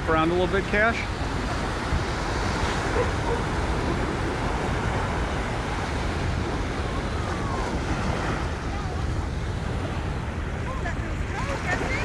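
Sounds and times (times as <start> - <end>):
small surf breaking on beach: 1.0 - 12.0
wind on microphone: 1.0 - 12.0.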